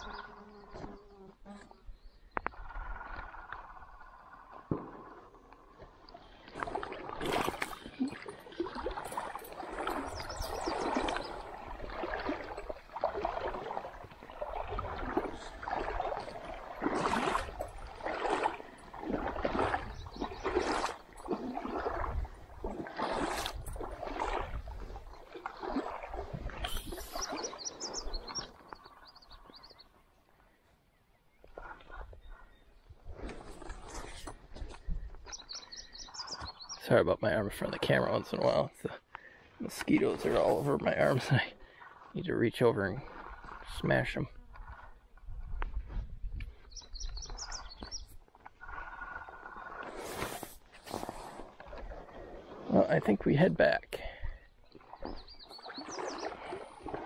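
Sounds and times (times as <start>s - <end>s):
water sloshing and splashing: 1.7s - 30.2s, 31.3s - 57.0s.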